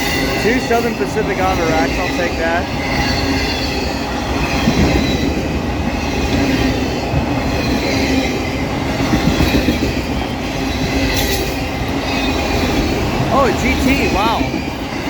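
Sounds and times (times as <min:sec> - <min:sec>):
train wheels rumbling and clattering: 0:00.0 - 0:15.0.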